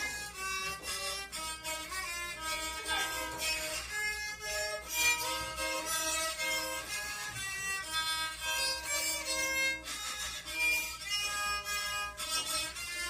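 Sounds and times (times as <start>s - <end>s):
bowed fiddle melody: 0.0s - 13.0s.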